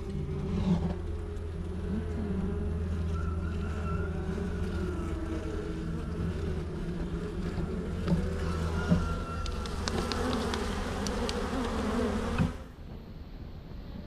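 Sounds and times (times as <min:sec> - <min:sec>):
honeybees buzzing: 0:00.0 - 0:12.8.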